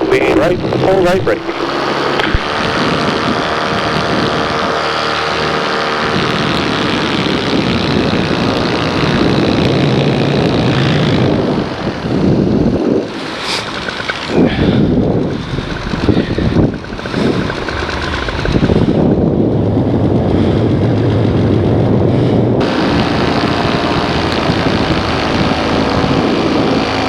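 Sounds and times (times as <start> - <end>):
paramotor engine and propeller: 0.0 - 27.0
rough rush of noise: 0.0 - 27.0.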